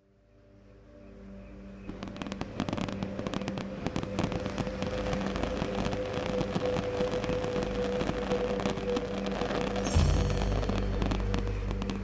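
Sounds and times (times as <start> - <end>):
fireworks crackling and popping: 1.9 - 12.0.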